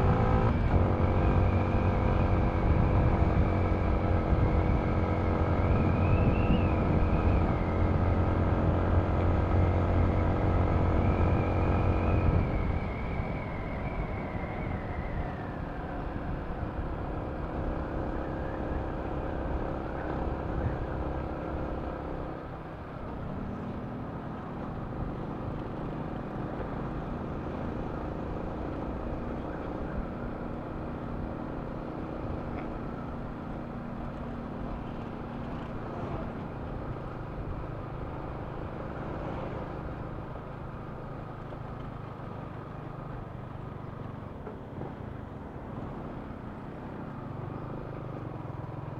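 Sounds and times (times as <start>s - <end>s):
road and wind noise: 0.0s - 48.9s.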